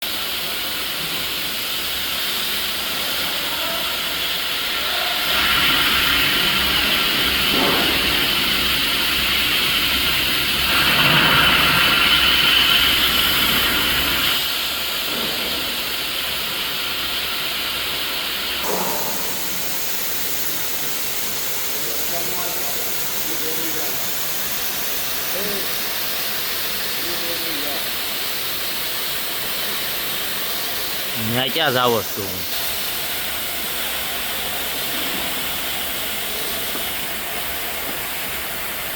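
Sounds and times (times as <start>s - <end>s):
plasma cutter arc hissing: 0.1s - 38.9s.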